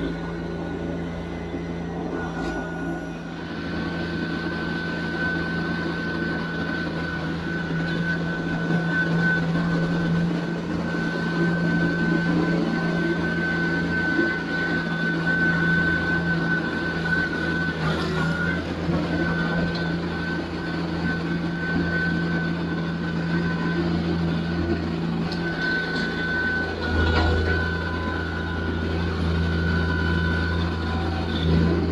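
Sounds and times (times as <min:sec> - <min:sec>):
high mechanical whine: 0:00.0 - 0:31.9
tractor diesel engine running: 0:00.0 - 0:31.9.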